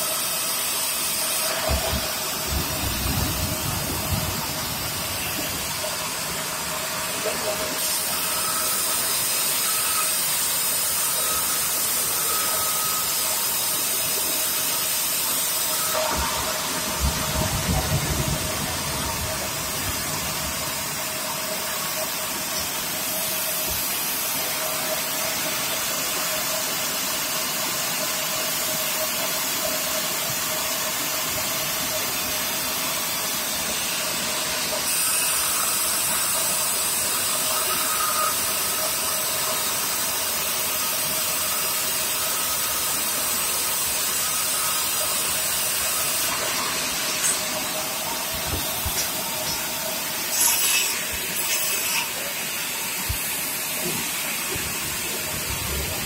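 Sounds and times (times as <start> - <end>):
band saw cutting timber: 0.0 - 26.6, 33.6 - 56.0.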